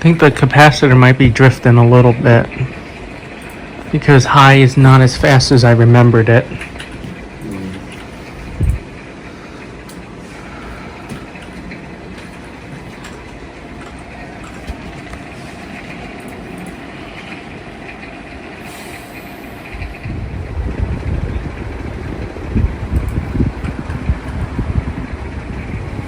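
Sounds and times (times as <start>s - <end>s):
ceiling fan air whoosh: 0.0s - 26.0s
draft buffeting microphone: 0.0s - 26.0s
faint motor hum: 0.0s - 26.0s.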